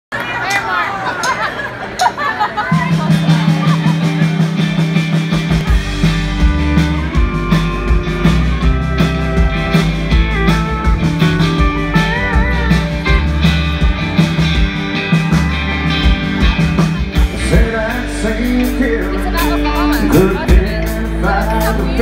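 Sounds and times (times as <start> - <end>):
country-rock band playing: 1.2 - 22.0
pedal steel guitar bending notes: 4.0 - 22.0.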